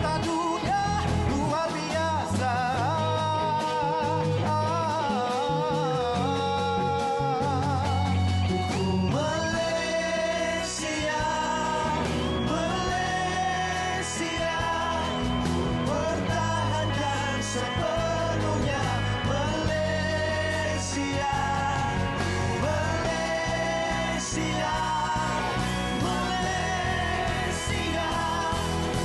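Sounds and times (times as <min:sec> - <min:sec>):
band backing: 0:00.0 - 0:29.0
male vocal group singing in harmony: 0:00.0 - 0:29.0.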